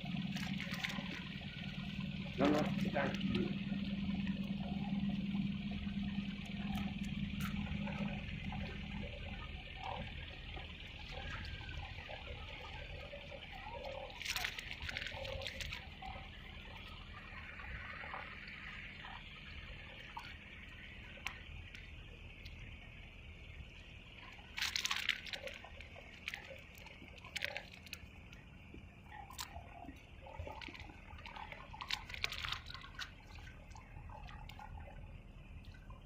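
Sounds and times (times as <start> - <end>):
small waves lapping: 0.0 - 36.0
water drips and splashes: 0.0 - 36.0.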